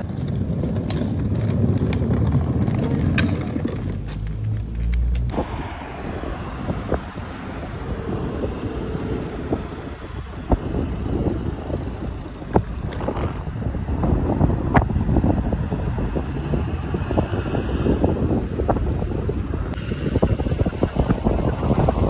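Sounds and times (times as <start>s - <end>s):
wind on microphone: 0.0s - 22.0s
road traffic passing: 1.1s - 22.0s.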